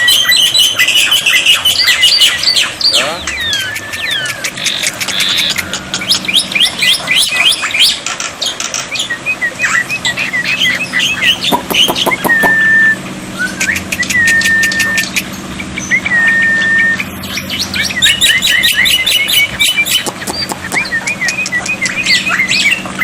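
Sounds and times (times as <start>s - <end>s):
myna singing chirps and whistles: 0.0s - 8.0s, 8.9s - 23.0s.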